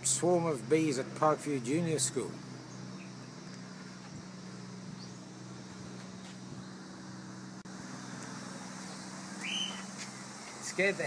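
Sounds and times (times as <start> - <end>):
bee swarm humming: 0.0 - 11.0.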